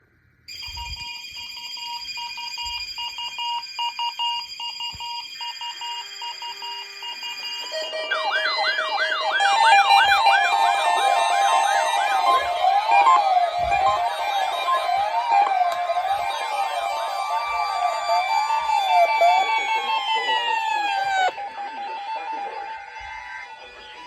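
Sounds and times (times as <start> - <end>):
beeping alarm tone: 0.5 - 22.5
fast siren wails: 0.5 - 24.0
steady high alarm tones: 0.5 - 24.0.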